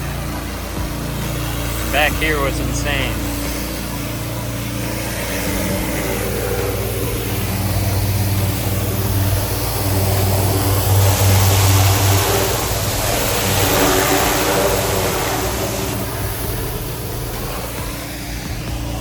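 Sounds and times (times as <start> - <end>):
engine humming: 0.0 - 19.0
hissing rush: 0.0 - 19.0.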